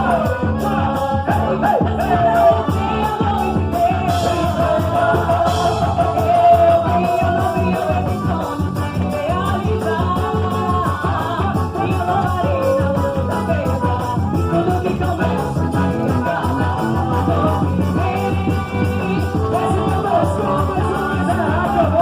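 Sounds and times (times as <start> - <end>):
band beat: 0.0 - 22.0
person singing melody: 0.0 - 22.0.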